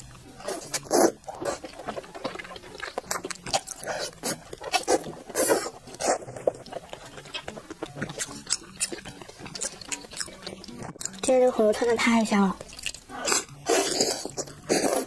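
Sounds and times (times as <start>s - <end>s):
person biting and chewing: 0.4s - 11.2s, 12.6s - 15.0s.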